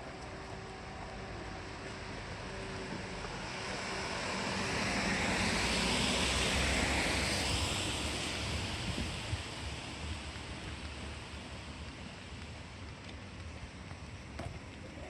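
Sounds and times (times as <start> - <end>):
steady rushing noise: 0.0 - 14.4.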